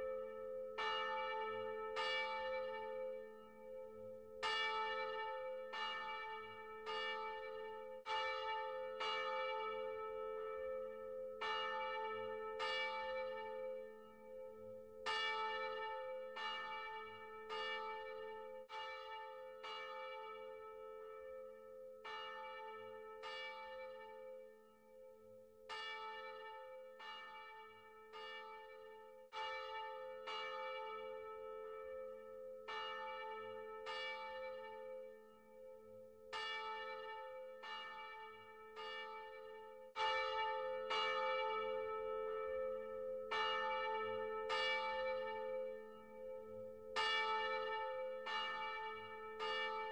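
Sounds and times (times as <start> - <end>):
church bell ringing: 0.0 - 49.9.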